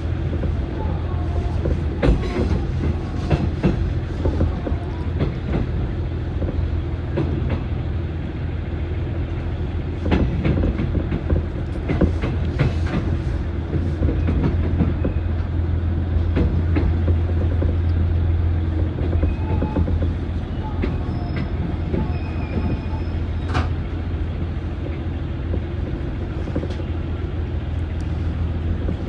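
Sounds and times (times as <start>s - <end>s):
train coach low rumble: 0.0s - 29.0s
wheels clicking over rail joints: 1.4s - 7.8s, 10.0s - 27.0s.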